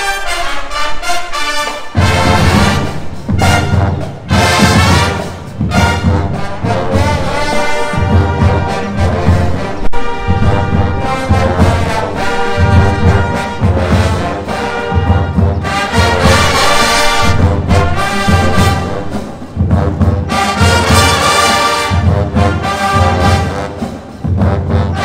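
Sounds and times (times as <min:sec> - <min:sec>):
marching band brass playing: 0:00.0 - 0:25.0.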